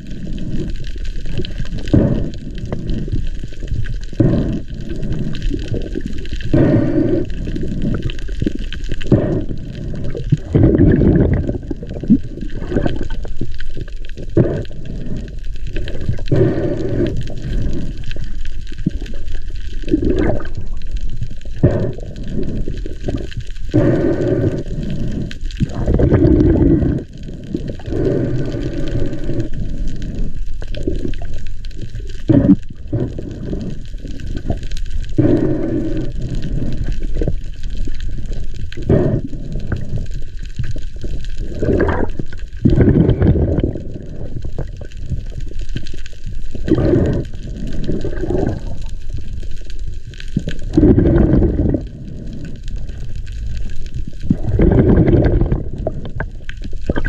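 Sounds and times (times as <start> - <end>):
small popping sounds: 0.0 - 57.0
water sloshing and gurgling: 0.0 - 57.0.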